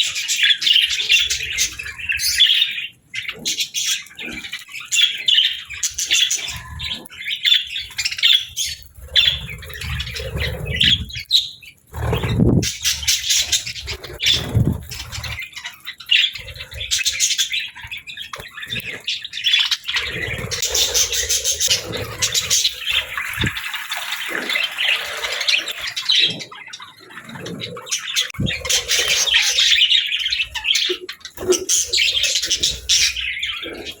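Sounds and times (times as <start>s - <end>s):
budgerigars chattering and chirping: 0.0s - 23.8s, 24.6s - 34.0s.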